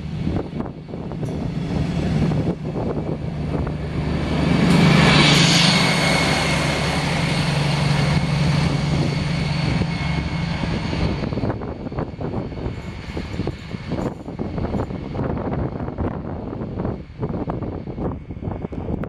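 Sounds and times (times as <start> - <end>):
diesel locomotive drone with whine: 0.0 - 19.0.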